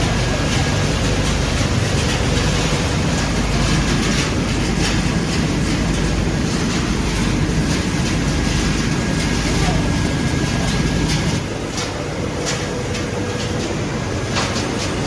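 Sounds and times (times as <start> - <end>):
crushing machinery with fine rattle: 0.0 - 15.0.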